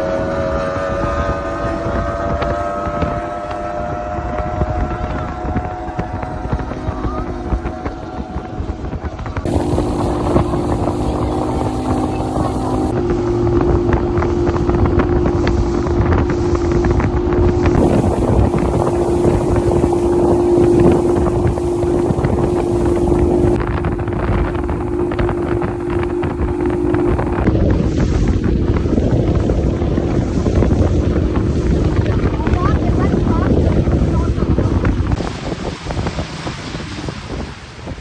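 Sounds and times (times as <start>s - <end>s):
boat engine droning: 0.0s - 38.0s
wind buffeting microphone: 0.0s - 38.0s.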